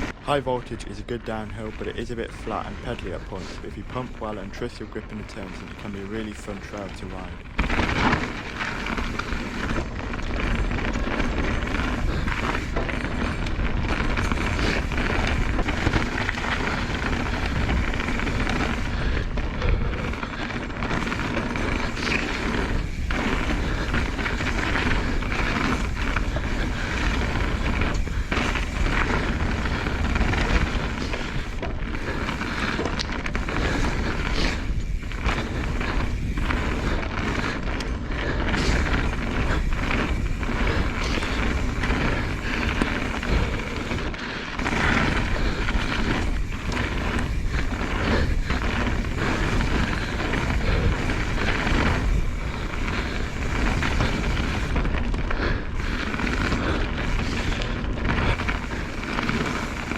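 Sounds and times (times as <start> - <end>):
tyres rolling over dirt: 0.0 - 59.9
wind buffeting on microphone: 6.6 - 59.9
bike knocks and rattles: 7.4 - 59.9.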